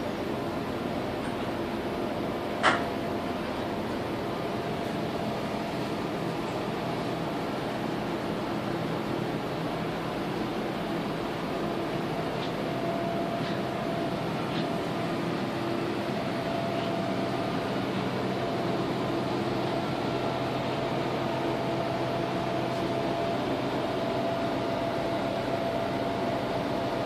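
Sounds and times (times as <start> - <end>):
railcar ventilation hum: 0.0 - 27.0.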